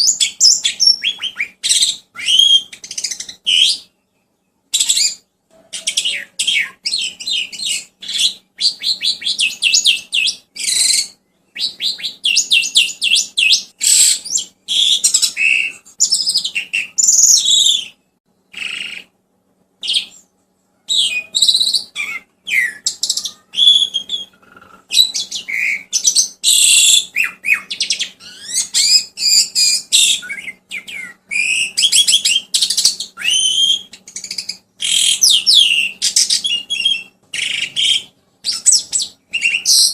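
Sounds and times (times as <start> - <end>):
birdsong trills and whistles: 0.0 - 19.1, 19.8 - 39.9.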